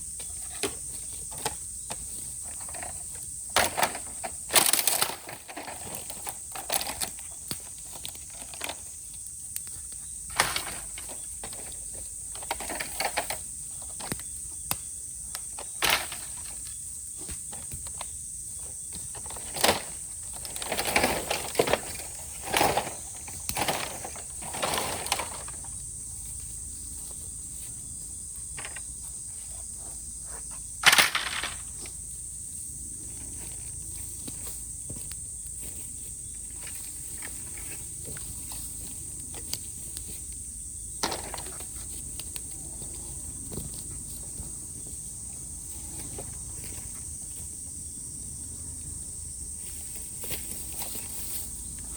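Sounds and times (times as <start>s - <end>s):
cicada chorus: 0.0s - 51.9s.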